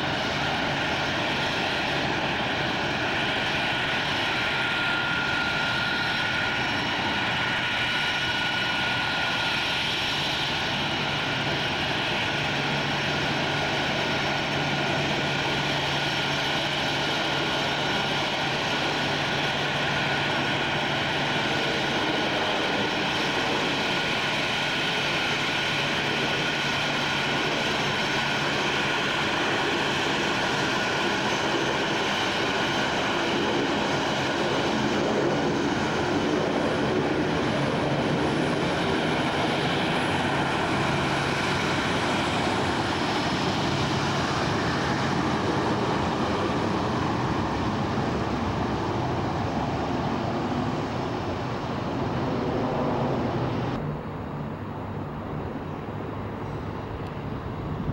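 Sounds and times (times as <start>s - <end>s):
jet engines rushing: 0.0s - 57.9s.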